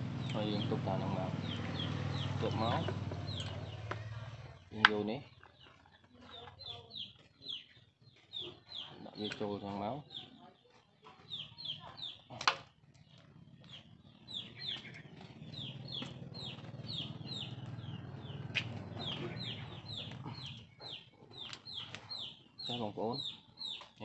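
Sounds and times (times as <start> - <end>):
chickens peeping: 0.1 - 24.0.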